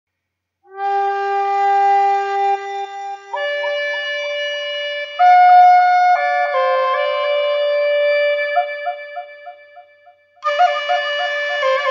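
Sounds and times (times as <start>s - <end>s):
flute played slowly: 0.6s - 11.9s.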